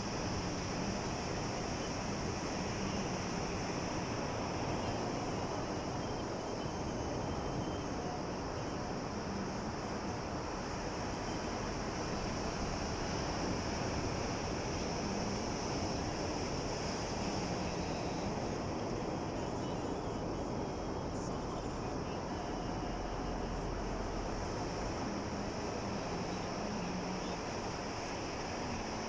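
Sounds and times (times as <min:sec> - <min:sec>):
sea waves washing ashore: 0:00.0 - 0:29.0
steady high hiss: 0:00.0 - 0:29.0.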